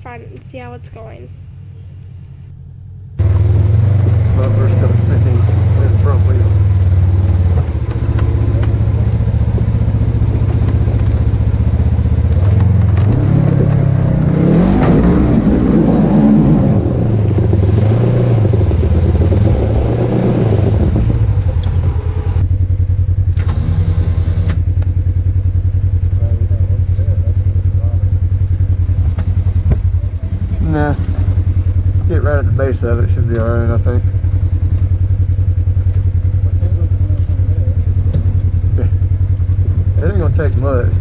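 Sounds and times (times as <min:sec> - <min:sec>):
utility vehicle engine revving: 0:00.0 - 0:41.0.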